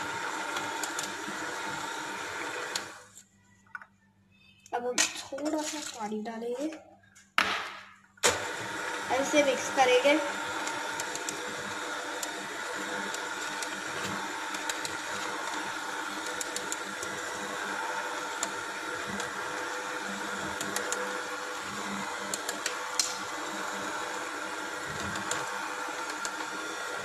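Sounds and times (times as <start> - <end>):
electric hand mixer humming: 0.0 - 3.1, 8.3 - 27.0.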